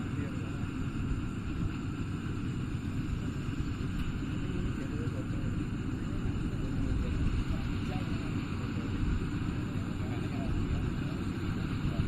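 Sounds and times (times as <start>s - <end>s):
combine harvester engine and threshing: 0.0s - 12.0s.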